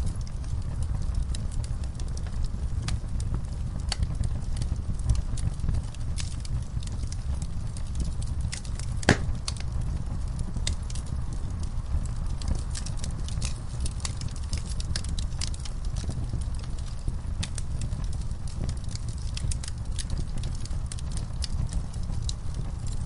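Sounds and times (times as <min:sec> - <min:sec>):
campfire crackling and popping: 0:00.0 - 0:23.0
low rumble of burning wood: 0:00.0 - 0:23.0.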